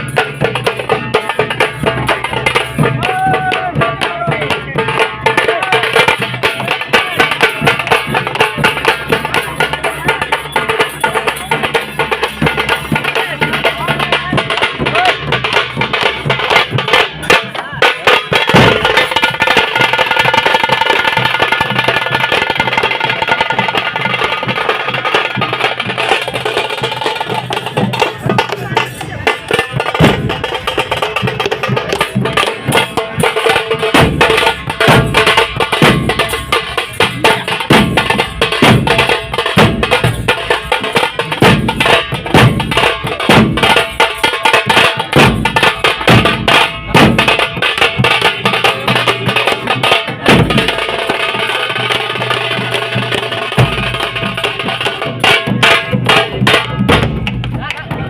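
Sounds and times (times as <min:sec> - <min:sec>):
deeper drum strokes: 0:00.0 - 0:58.0
drums beaten fast with sticks: 0:00.0 - 0:58.0.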